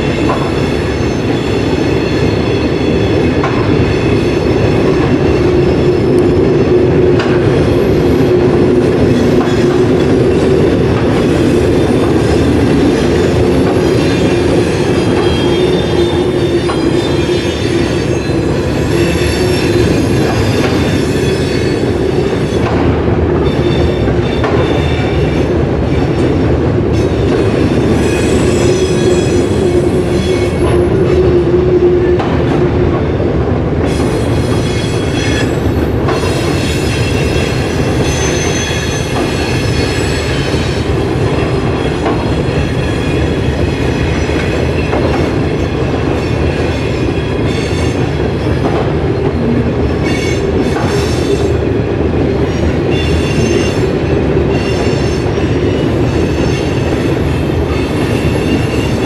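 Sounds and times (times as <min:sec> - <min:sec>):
train wheels squealing: 0:00.0 - 0:06.2, 0:07.5 - 0:22.7, 0:23.4 - 0:26.2, 0:27.0 - 0:32.2, 0:33.8 - 0:48.6, 0:49.9 - 0:51.6, 0:52.4 - 0:59.0
train rumbling past: 0:00.0 - 0:59.0.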